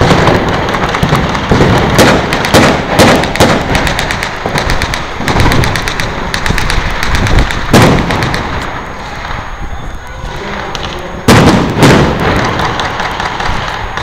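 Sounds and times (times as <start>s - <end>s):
blank gunshots: 0.0s - 8.6s, 10.4s - 14.0s
background haze: 0.0s - 14.0s.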